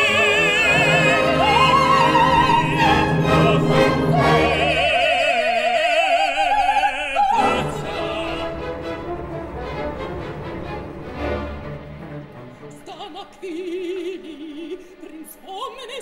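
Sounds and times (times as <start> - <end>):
orchestra playing: 0.0 - 15.1
operatic singing: 0.0 - 16.0.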